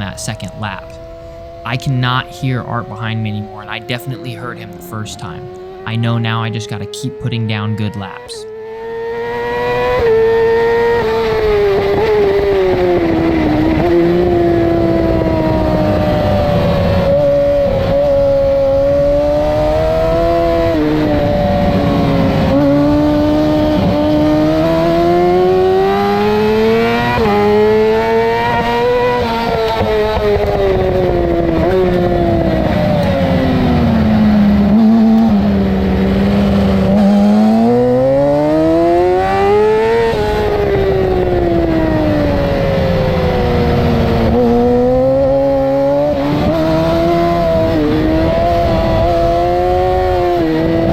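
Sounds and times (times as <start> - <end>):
motorcycle engine at racing revs: 0.0 - 50.9.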